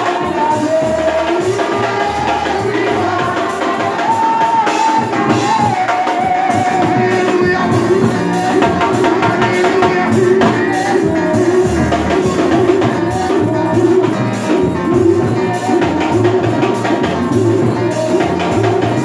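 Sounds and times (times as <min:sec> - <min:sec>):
band with drum kit: 0:00.0 - 0:19.0
people singing: 0:00.0 - 0:19.0.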